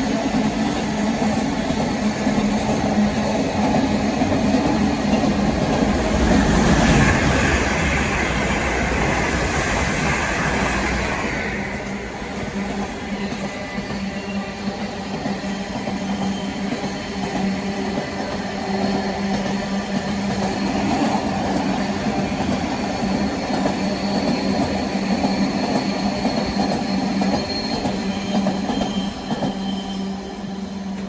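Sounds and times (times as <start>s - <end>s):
train hum: 0.0s - 31.0s
train wheels rumbling on track: 0.0s - 31.0s.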